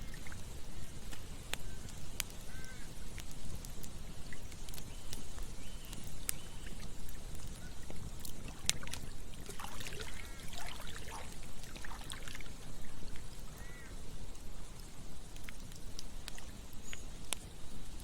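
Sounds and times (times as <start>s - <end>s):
flowing water: 0.0s - 1.3s, 3.2s - 18.0s
campfire crackling and popping: 0.0s - 18.0s.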